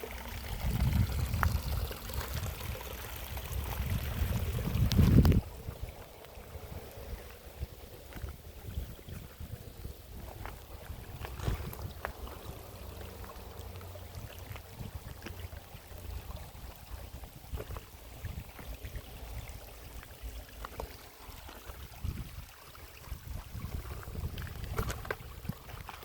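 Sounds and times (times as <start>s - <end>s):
running water: 0.0s - 26.0s
wind buffeting microphone: 0.4s - 12.9s, 14.1s - 19.6s, 21.8s - 26.0s.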